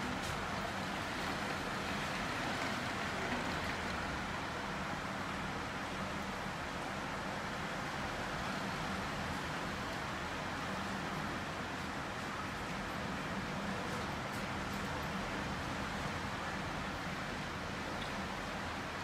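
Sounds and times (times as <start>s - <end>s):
heavy rain on window: 0.0s - 19.0s.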